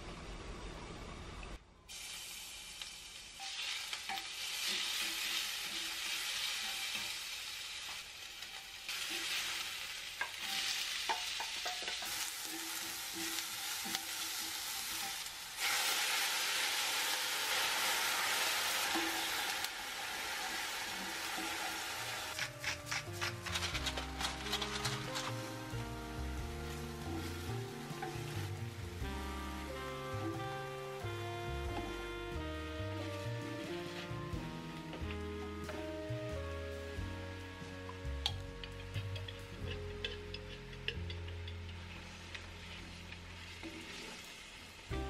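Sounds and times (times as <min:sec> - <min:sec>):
onions sizzling in oil: 0:01.9 - 0:36.4, 0:37.0 - 0:45.0.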